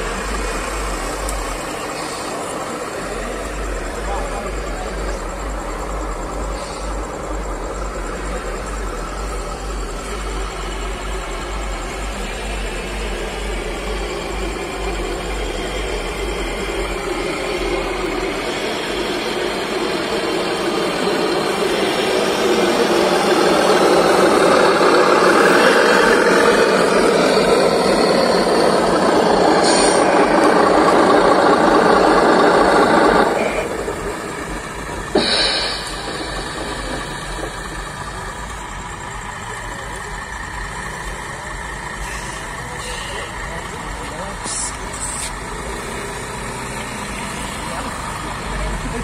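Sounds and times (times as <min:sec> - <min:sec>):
simulated truck engine idling and revving: 0:00.0 - 0:49.0.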